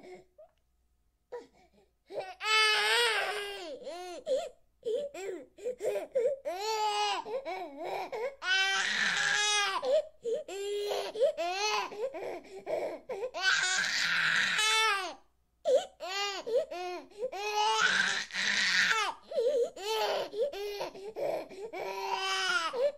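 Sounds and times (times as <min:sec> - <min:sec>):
baby crying: 0:01.3 - 0:22.9.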